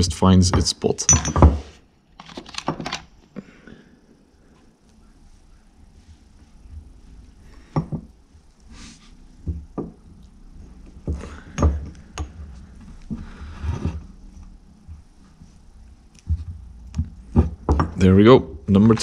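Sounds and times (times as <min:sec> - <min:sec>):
rustling: 0:01.4 - 0:19.0.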